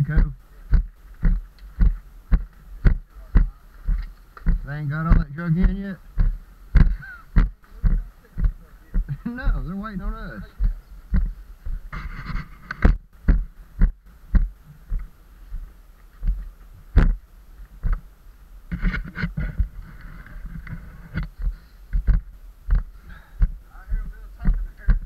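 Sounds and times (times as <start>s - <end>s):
footsteps on rocky dirt trail: 0.0s - 18.1s, 18.7s - 25.0s
faint rustling: 0.0s - 25.0s.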